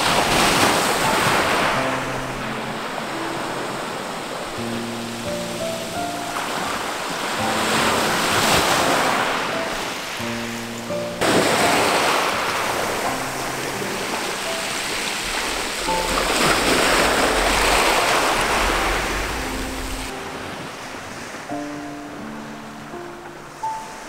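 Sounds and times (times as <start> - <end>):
waves washing over gravel beach: 0.0 - 10.3, 11.2 - 21.8
background music with held notes: 0.1 - 24.0.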